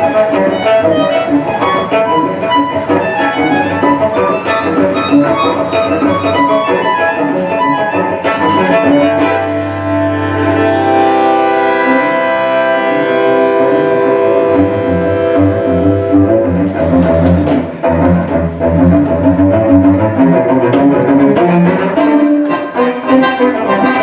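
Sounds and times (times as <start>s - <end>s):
bandoneon: 0.0s - 24.0s
cello: 0.0s - 24.0s.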